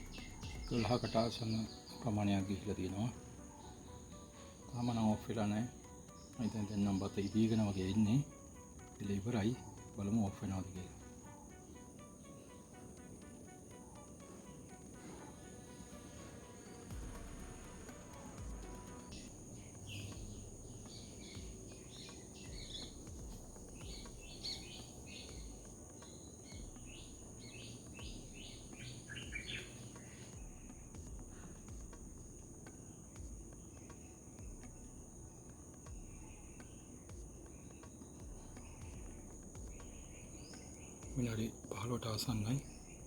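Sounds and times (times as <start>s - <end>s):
birds chirping: 0.0s - 43.0s
high insect drone: 0.0s - 43.0s.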